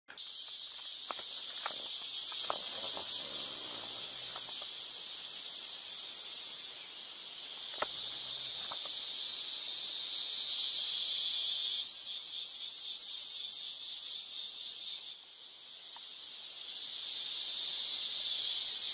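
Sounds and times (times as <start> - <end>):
insect chorus: 0.1 - 18.9.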